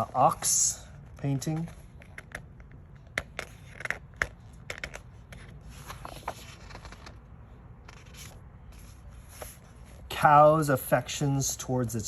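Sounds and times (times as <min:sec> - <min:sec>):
book pages rustling: 0:00.0 - 0:10.2.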